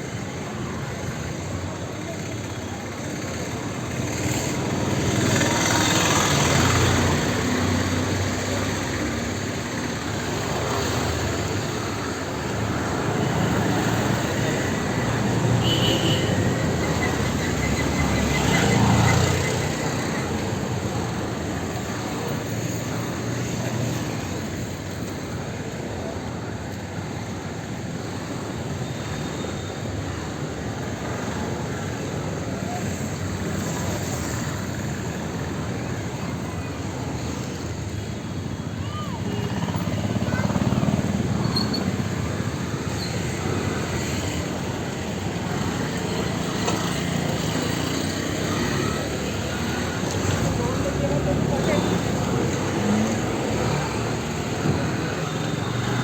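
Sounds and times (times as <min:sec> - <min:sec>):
vehicle engines and tyre noise: 0:00.0 - 0:56.0.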